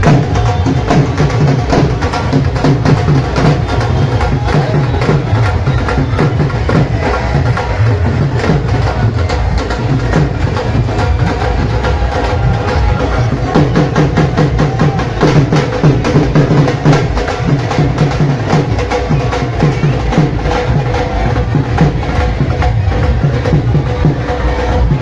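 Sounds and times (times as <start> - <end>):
music with driving drum beat: 0.0 - 25.0.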